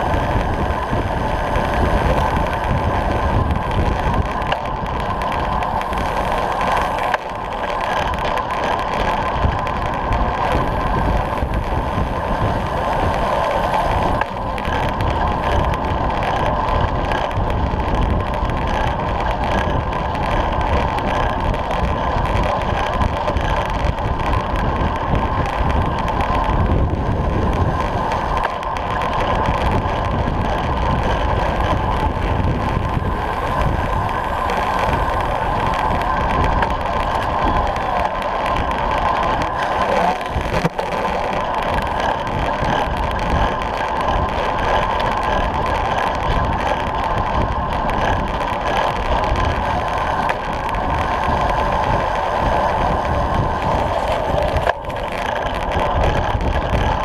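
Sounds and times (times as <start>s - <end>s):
bike tyres rolling on tarmac: 0.0s - 57.0s
wind rushing over camera: 0.0s - 57.0s.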